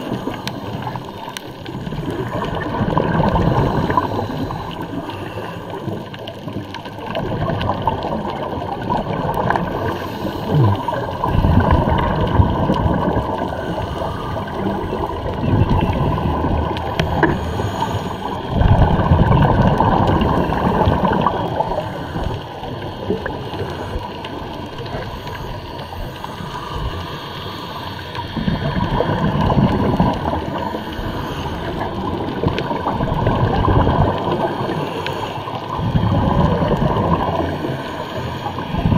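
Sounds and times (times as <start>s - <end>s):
steady underwater hiss: 0.0s - 38.9s
underwater regulator bubbles: 0.0s - 38.9s.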